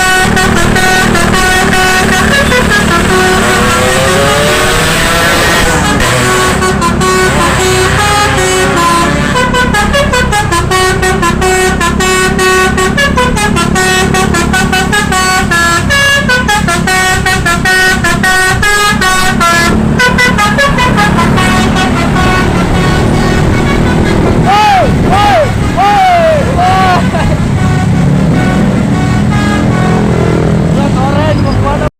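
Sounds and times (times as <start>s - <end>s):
musical bus horn tune: 0.0s - 30.8s
bus engine running: 0.0s - 31.9s.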